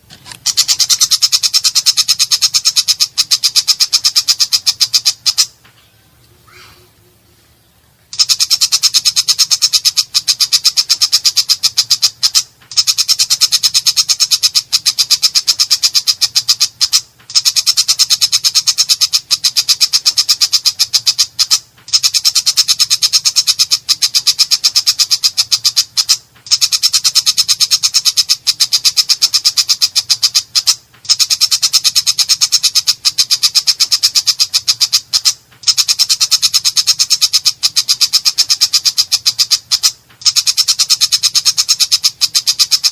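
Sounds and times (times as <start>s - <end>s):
bird singing harsh rasping chatter: 0.0s - 6.9s, 8.1s - 42.9s.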